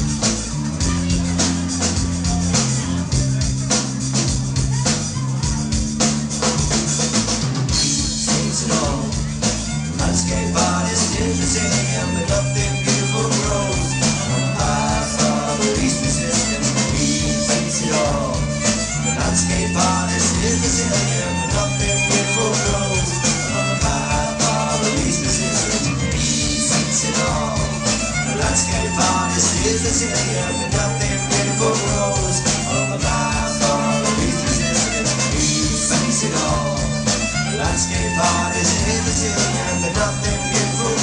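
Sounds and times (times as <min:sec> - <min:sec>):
bass guitar: 0:00.0 - 0:41.0
drums: 0:00.0 - 0:41.0
folk melody line: 0:00.0 - 0:41.0
guitars: 0:00.0 - 0:41.0.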